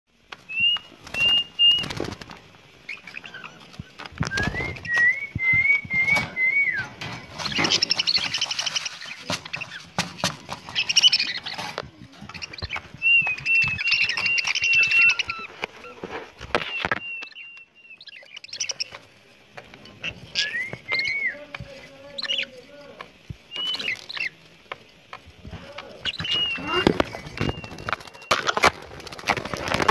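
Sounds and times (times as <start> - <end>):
budgerigars chirping and warbling: 0.5 - 28.5
clicks and rustles in cage: 3.7 - 17.2, 18.7 - 29.9.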